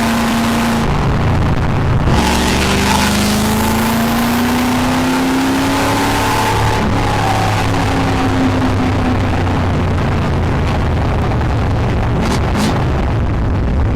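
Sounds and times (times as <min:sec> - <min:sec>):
car engine running loud: 0:00.0 - 0:13.9.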